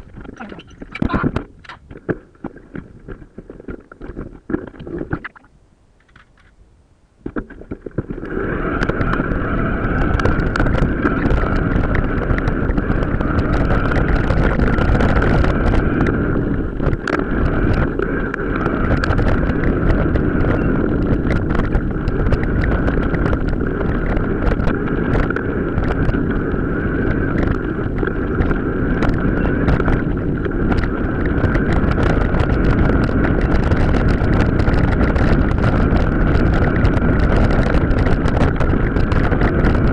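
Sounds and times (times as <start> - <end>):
wind rushing on microphone: 0.0 - 5.5, 7.2 - 39.9.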